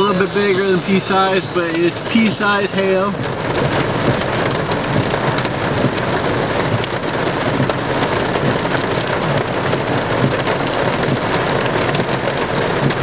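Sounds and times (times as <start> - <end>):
hailstones ticking: 0.0 - 13.0
rain hissing: 0.0 - 13.0.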